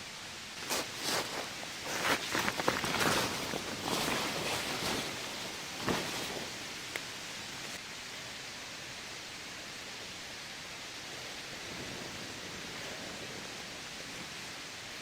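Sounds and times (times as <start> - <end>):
heavy rain falling: 0.6 - 7.8, 9.6 - 15.0.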